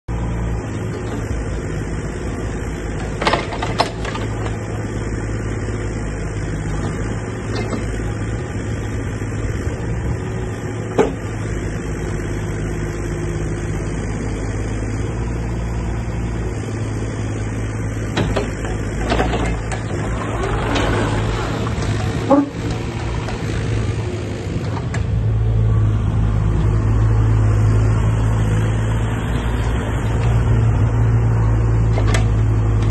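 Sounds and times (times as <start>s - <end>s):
excavator diesel engine running: 0.1s - 32.9s.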